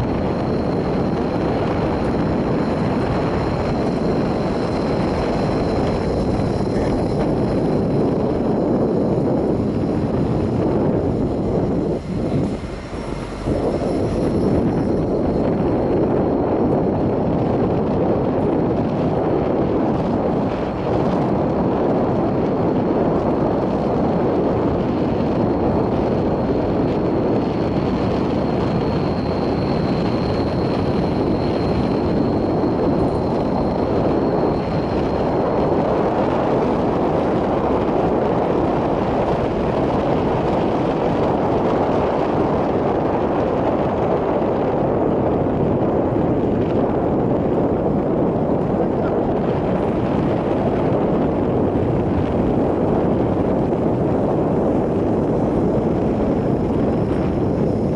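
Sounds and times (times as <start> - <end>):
car wind and road noise: 0.0 - 57.9
wind buffeting microphone: 0.0 - 57.9.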